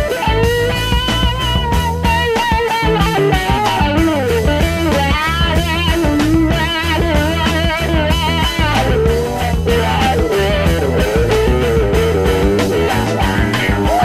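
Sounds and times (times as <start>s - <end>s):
rock music with electric guitar: 0.0s - 14.0s.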